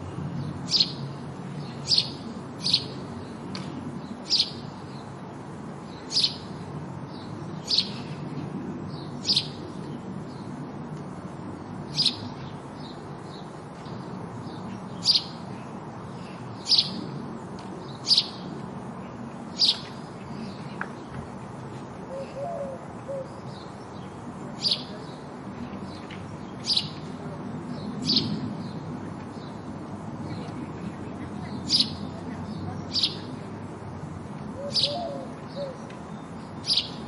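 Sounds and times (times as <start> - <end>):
steady background noise: 0.0 - 37.0
sparrow chirping: 0.2 - 5.2, 5.8 - 8.2, 8.9 - 10.6, 11.8 - 17.2, 17.8 - 20.6, 22.2 - 33.4, 34.5 - 37.0.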